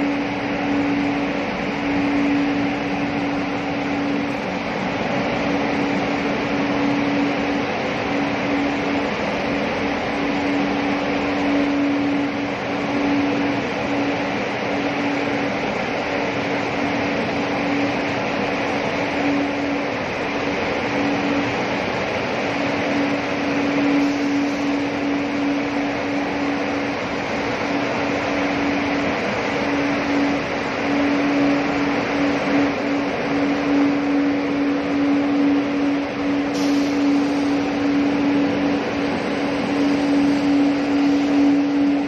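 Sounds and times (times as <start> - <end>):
production line machinery hum: 0.0 - 42.0.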